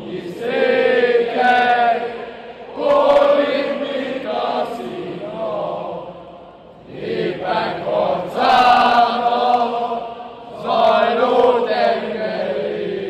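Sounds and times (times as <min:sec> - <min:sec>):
football supporters chanting: 0:00.0 - 0:13.0.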